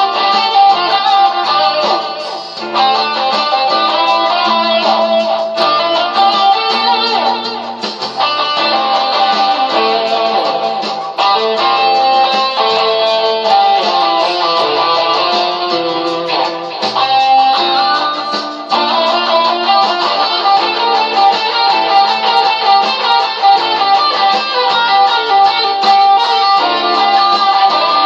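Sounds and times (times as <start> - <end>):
electric guitar lead: 0.0 - 28.0
metal backing track: 0.0 - 28.0.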